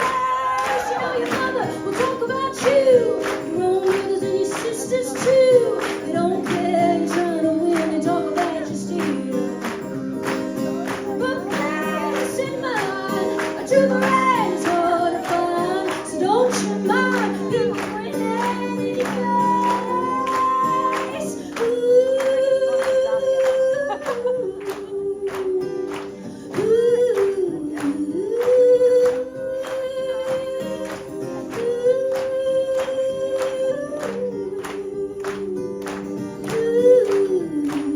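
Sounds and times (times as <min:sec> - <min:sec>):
woman singing: 0:00.0 - 0:37.9.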